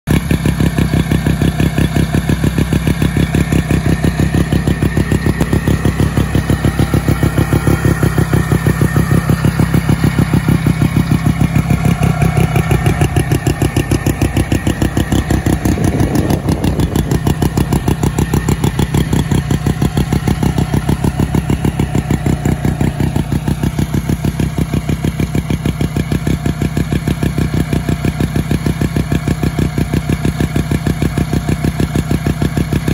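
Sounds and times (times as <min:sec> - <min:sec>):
snowmobile engine idling: 0:00.1 - 0:32.9.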